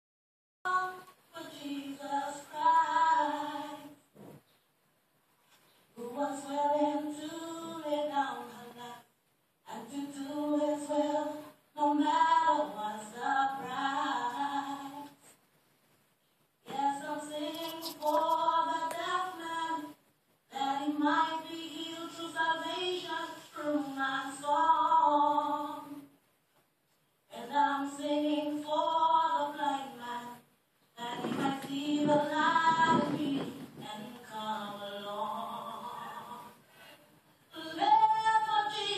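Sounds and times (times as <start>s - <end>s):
woman singing: 0.7s - 4.0s, 6.0s - 9.1s, 9.7s - 15.2s, 16.6s - 26.1s, 27.3s - 36.6s, 37.5s - 38.9s.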